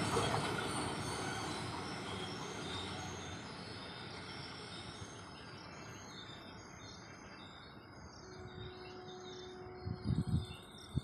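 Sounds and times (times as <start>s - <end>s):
distant train rumble: 0.0s - 11.0s.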